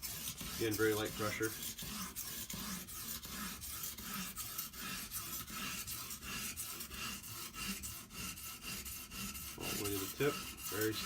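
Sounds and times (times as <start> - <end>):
sharpening stone rasping on knife: 0.0 - 11.0.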